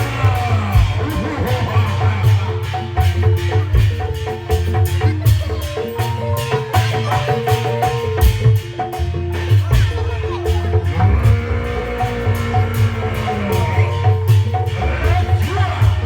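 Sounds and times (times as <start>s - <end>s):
drum hits: 0.0s - 16.0s
heavy steady bass: 0.0s - 16.0s
mallet-struck melody: 0.0s - 16.0s.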